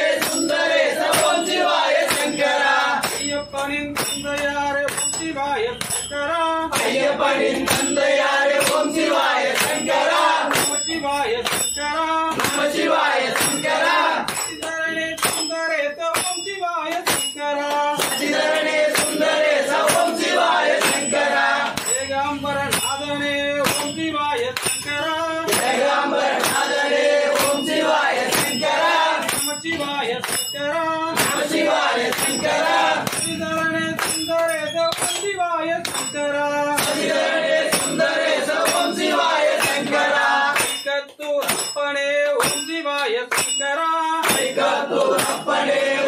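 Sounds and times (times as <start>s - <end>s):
hand cymbals beating: 0.0s - 46.0s
men singing a chant: 0.0s - 46.0s.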